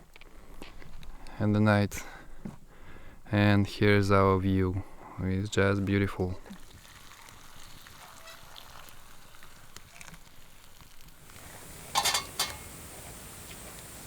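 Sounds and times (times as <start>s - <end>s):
faint background noise: 0.0s - 14.0s.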